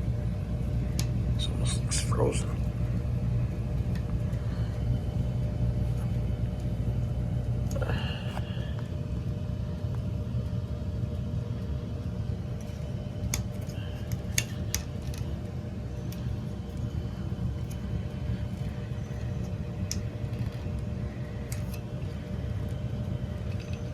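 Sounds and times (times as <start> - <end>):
heating equipment humming: 0.0 - 23.9.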